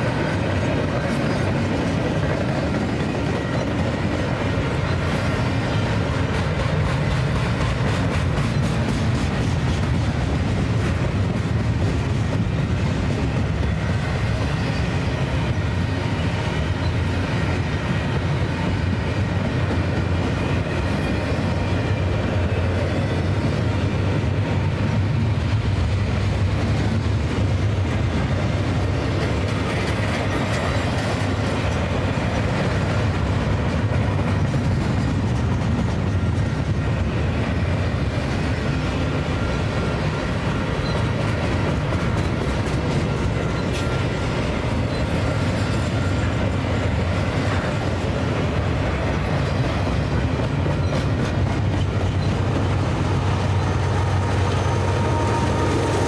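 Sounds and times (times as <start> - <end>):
freight train rumble and rattle: 0.0 - 56.0
wheels clacking over rails: 0.0 - 56.0.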